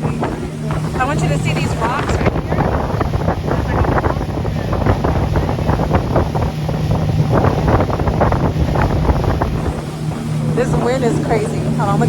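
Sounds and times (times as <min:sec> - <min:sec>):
boat motor humming: 0:00.0 - 0:12.0
wind buffeting microphone: 0:00.0 - 0:12.0.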